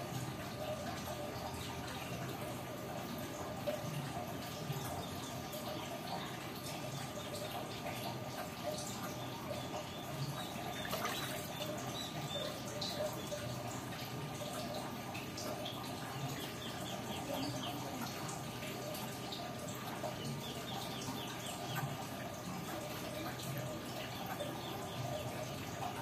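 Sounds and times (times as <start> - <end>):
water trickling and dripping: 0.0 - 26.0.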